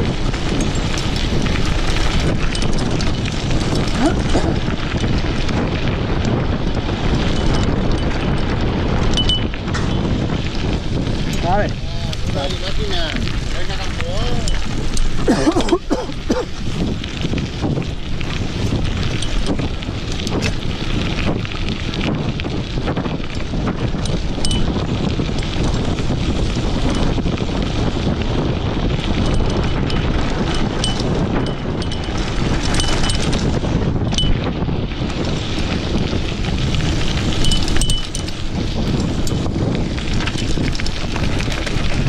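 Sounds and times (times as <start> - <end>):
bike rattles and knocks: 0.0 - 42.0
bike tyres rumbling on gravel: 0.0 - 42.0
wind buffeting microphone: 0.0 - 42.0.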